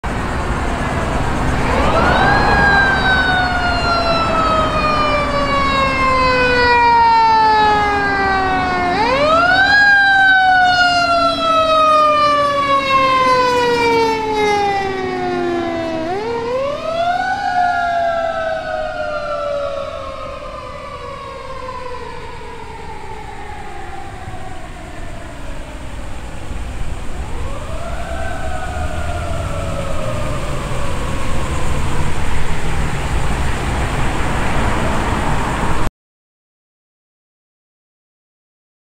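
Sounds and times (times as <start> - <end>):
fire engine siren wailing: 0.0 - 35.9.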